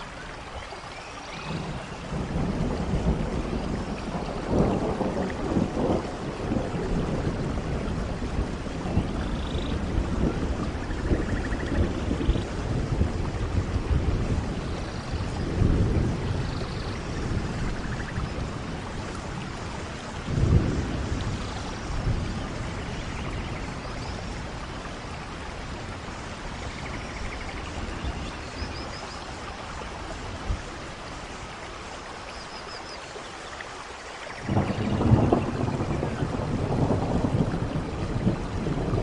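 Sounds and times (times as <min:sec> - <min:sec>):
steady rain: 0:00.0 - 0:39.0
thunder rumbling: 0:01.4 - 0:31.1, 0:34.4 - 0:39.0.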